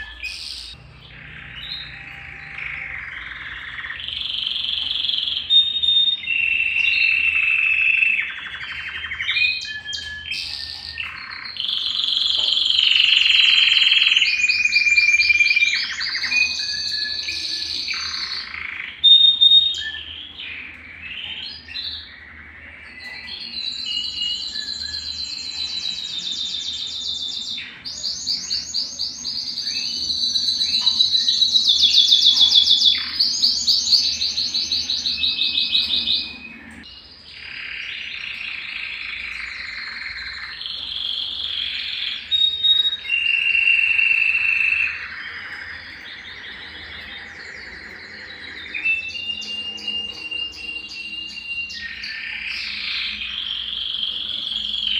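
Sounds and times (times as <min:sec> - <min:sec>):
canary singing whistles and trills: 0:00.0 - 0:54.9.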